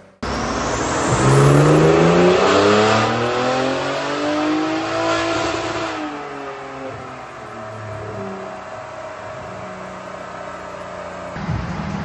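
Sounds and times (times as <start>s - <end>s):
engine revving hard: 0.2s - 11.4s.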